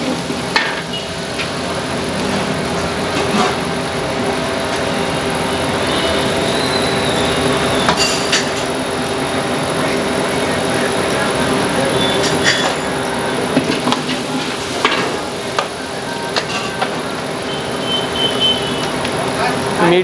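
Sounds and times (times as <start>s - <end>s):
onion frying in hot oil: 0.0s - 20.0s.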